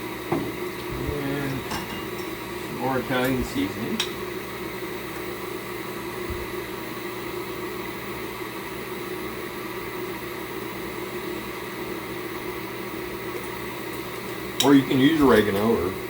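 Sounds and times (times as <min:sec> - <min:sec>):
appliance humming and hissing: 0:00.0 - 0:16.0.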